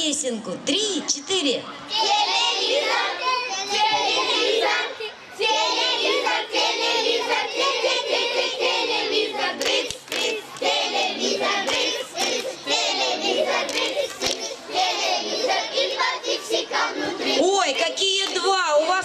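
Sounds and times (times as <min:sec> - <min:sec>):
children singing: 0:01.9 - 0:18.4.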